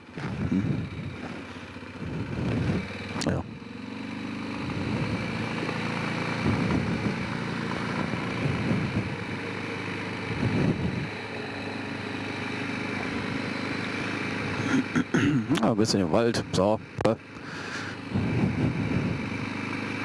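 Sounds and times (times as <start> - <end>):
atv engine running at low speed: 0.0 - 20.0.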